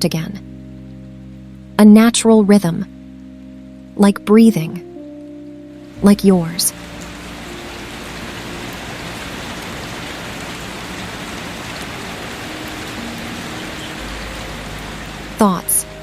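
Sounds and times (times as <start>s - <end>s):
steady rain falling: 0.4s - 1.9s, 2.8s - 16.0s.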